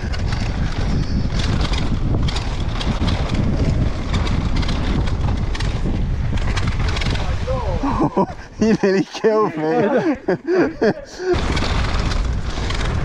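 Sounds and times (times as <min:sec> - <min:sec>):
bike clacking and rattling: 0:00.0 - 0:13.0
tyres rolling over dirt and stones: 0:00.0 - 0:13.0
wind buffeting microphone: 0:00.0 - 0:13.0.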